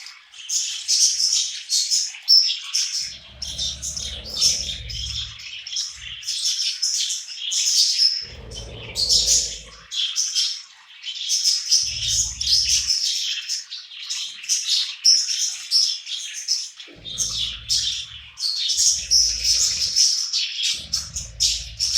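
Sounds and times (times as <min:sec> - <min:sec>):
budgies chirping: 0:00.0 - 0:21.9.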